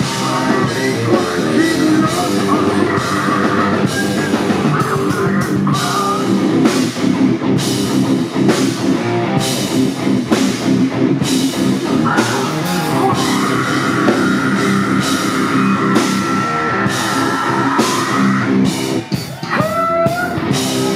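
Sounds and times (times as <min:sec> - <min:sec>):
bass guitar: 0:00.0 - 0:20.9
drum kit with cymbal hits: 0:00.0 - 0:20.9
electric guitars: 0:00.0 - 0:20.9.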